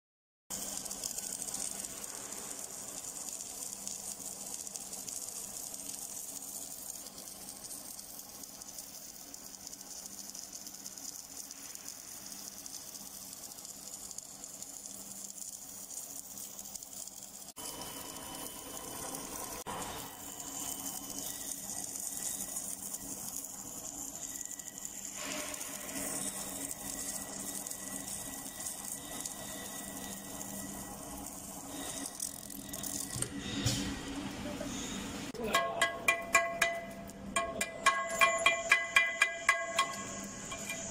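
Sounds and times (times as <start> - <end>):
welding arc crackling hiss: 0.5 - 40.9.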